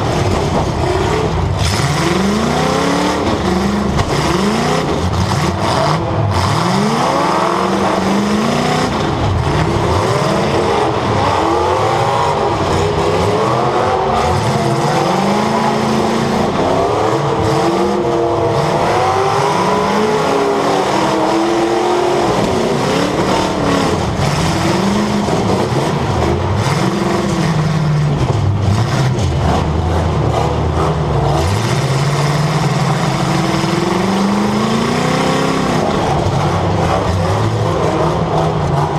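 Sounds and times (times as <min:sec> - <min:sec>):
car engine revving: 0:00.0 - 0:38.9
other car engines revving: 0:00.0 - 0:38.9.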